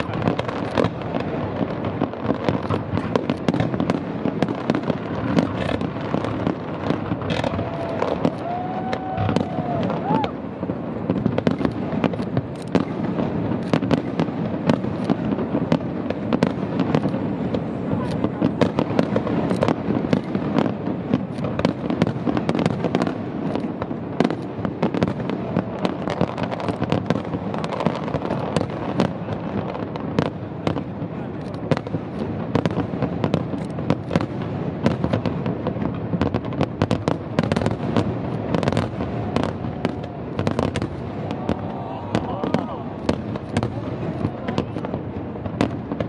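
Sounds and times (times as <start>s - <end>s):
fireworks bangs and crackles: 0.0s - 46.0s.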